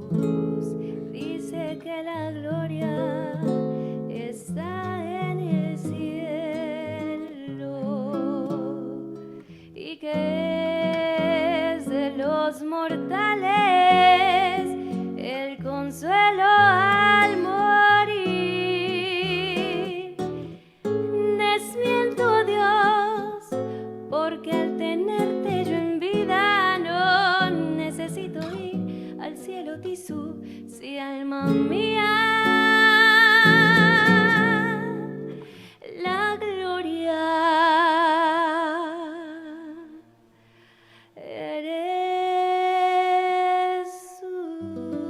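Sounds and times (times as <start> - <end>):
acoustic guitar bolero: 0.0 - 37.9.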